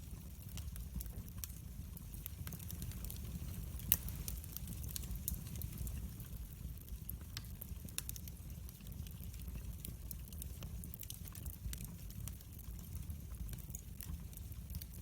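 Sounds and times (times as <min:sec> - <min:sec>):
wood fire crackling in fireplace: 0:00.0 - 0:15.0.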